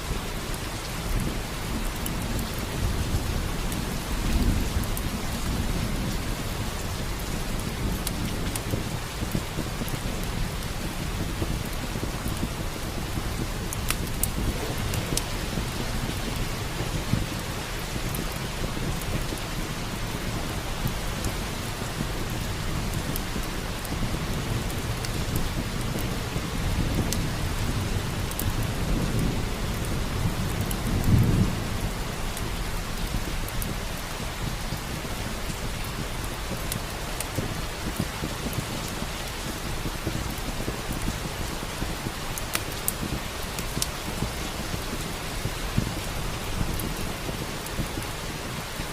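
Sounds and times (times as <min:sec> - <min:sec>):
log fire crackling: 0:00.0 - 0:48.9
steady rain: 0:00.0 - 0:48.9
low thunder rumble: 0:00.9 - 0:48.9.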